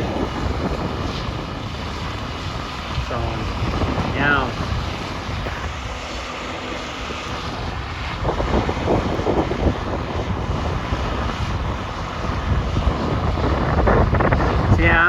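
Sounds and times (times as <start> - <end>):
farm machinery engines droning: 0.0 - 15.0
wind buffeting microphone: 0.0 - 15.0.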